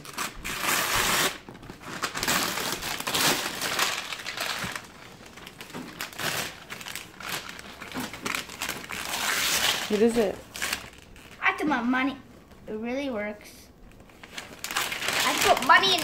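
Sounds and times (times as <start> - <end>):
wrapping paper tearing and crumpling: 0.0 - 11.6, 14.0 - 16.0.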